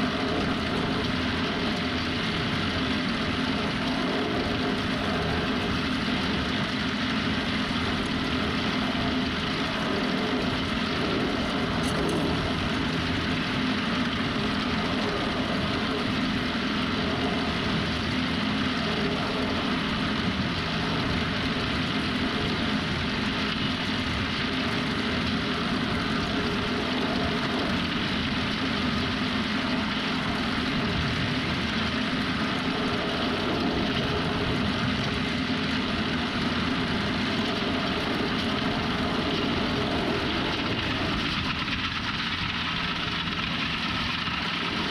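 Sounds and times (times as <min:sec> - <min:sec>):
machine engine rumbling: 0:00.0 - 0:44.9.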